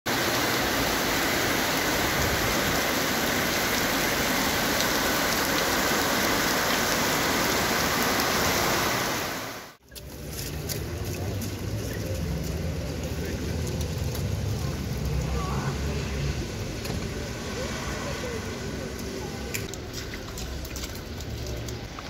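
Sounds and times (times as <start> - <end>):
heavy rain on street: 0.1 - 22.0.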